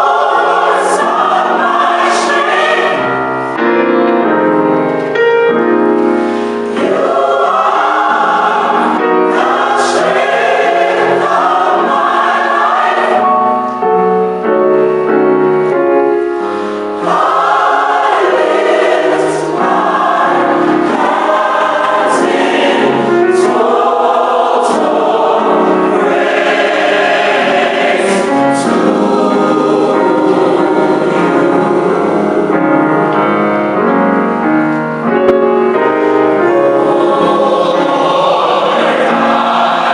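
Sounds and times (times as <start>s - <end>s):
gospel choir singing: 0.0s - 4.7s, 5.6s - 14.7s, 15.9s - 34.1s, 35.6s - 39.9s.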